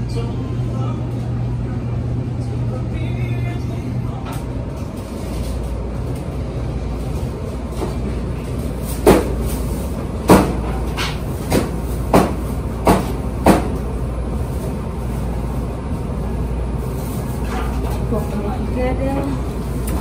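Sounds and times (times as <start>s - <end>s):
store hum: 0.0s - 20.0s.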